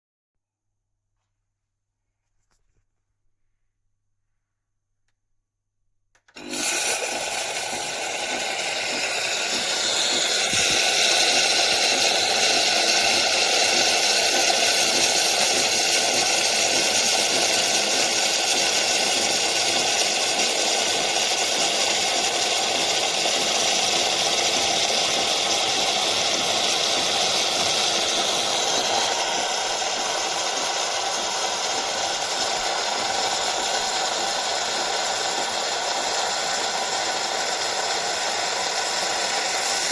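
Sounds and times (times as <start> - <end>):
espresso machine running: 6.3 - 39.9.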